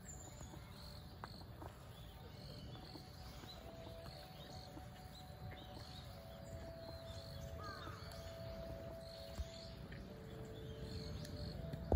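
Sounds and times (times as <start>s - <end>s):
distant bird calls: 0.0s - 11.9s.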